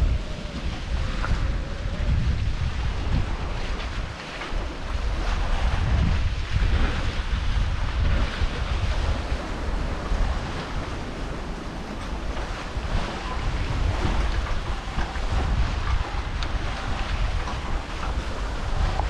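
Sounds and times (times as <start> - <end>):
water washing along hulls: 0.0 - 19.0
wind buffeting microphone: 0.0 - 19.0.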